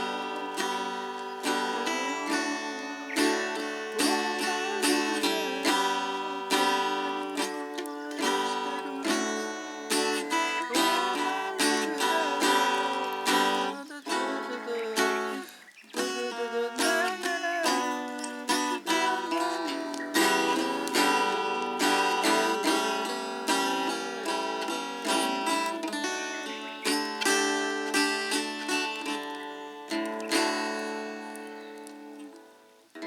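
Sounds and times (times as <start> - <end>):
acoustic guitar music: 0.0 - 33.0.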